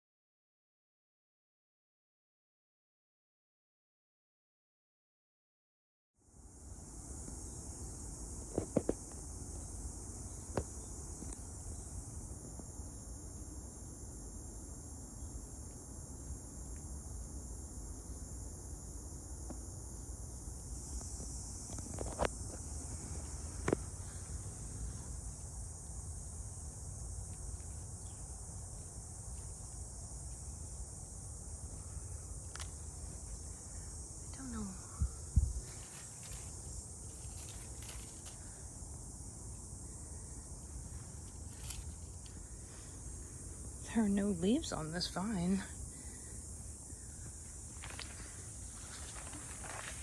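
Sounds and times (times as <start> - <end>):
crickets chirping: 6.2 - 50.0.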